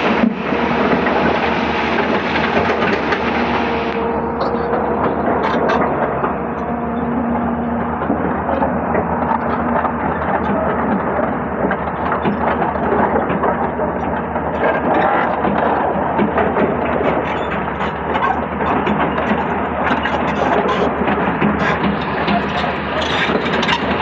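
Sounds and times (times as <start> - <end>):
excavator diesel engine: 0.0 - 24.0.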